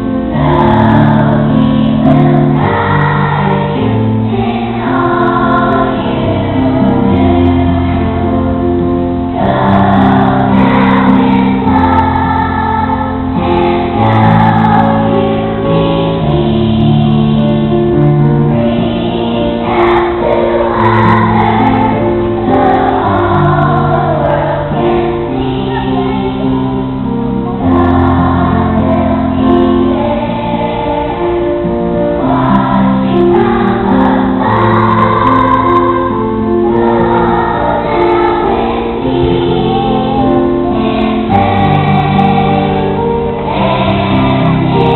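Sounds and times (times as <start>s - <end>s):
singing voices: 0.0s - 44.9s.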